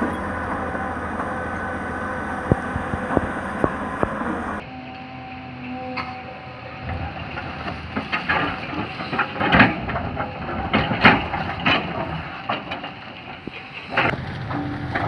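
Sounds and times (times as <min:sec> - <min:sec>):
excavator bucket crunching soil: 0:00.0 - 0:04.6, 0:06.8 - 0:15.0
excavator engine running: 0:00.0 - 0:15.0.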